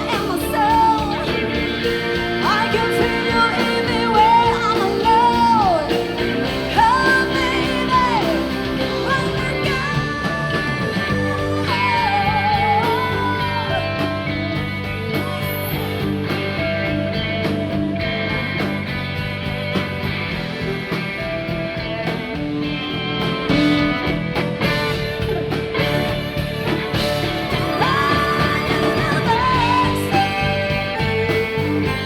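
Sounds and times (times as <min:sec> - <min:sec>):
instrumental rock music with guitar: 0:00.0 - 0:32.0.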